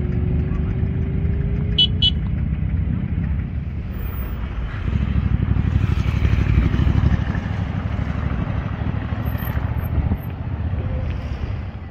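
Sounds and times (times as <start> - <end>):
motorcycle engine passing: 0.0 - 11.8
car engines passing: 0.0 - 11.9.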